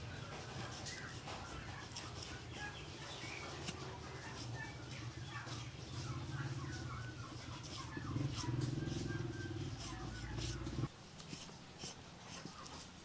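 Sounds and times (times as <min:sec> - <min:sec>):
small birds chirping: 0:00.0 - 0:10.9
steady low hum: 0:00.0 - 0:11.0.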